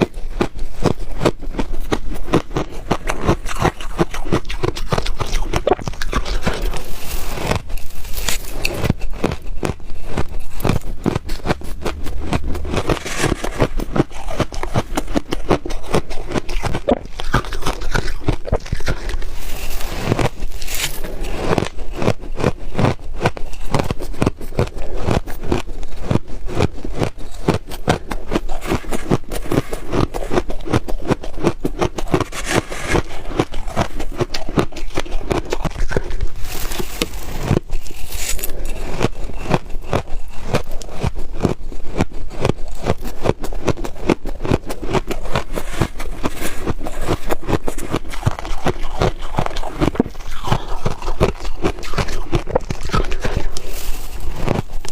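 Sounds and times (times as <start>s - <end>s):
frost crunching in mouth: 0.0s - 54.9s.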